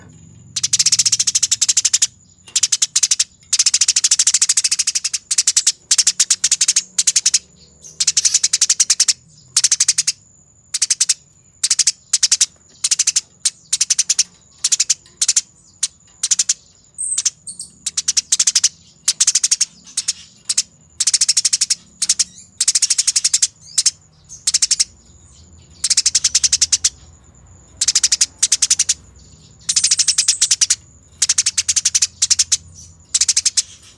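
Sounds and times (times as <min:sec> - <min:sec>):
sparrow chattering song: 0:00.0 - 0:33.9.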